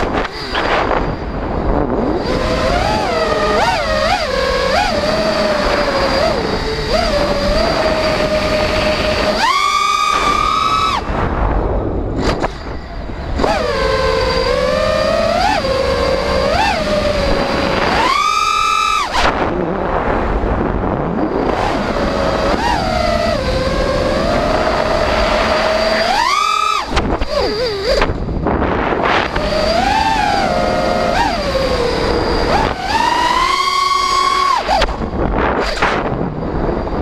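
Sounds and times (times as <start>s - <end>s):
drone motors whining: 0.0s - 37.0s.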